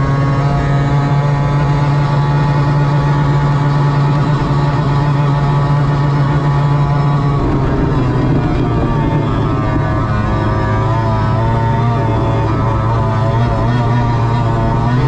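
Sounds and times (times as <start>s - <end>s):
outboard engine at full throttle: 0.0s - 15.0s
rush of wind and water: 0.0s - 15.0s.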